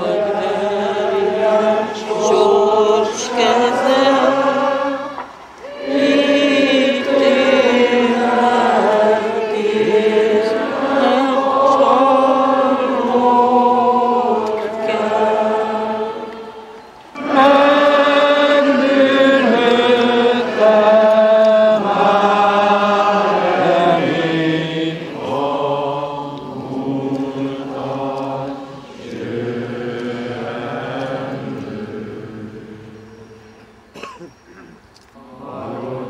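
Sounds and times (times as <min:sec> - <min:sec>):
voices singing slow melody: 0:00.0 - 0:36.0.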